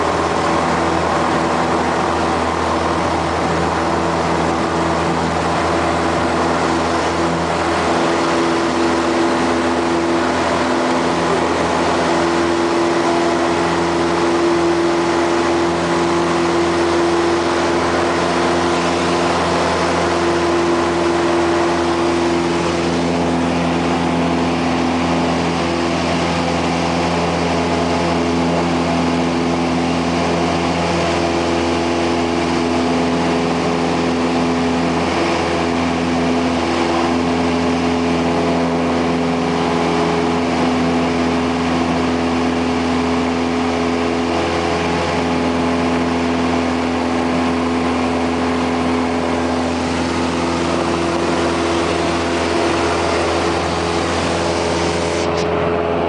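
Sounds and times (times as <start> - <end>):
propeller plane engine drone: 0.0 - 56.0
rushing airflow: 0.0 - 56.0.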